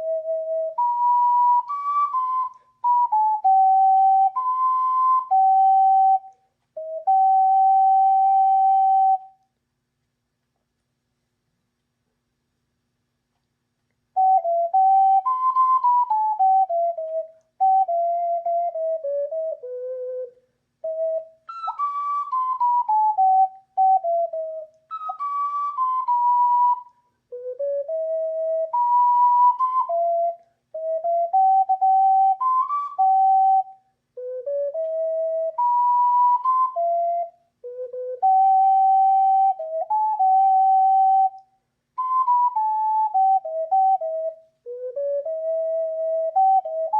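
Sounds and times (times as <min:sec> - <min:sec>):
ocarina playing slow melody: 0:00.0 - 0:09.5, 0:14.2 - 0:46.9.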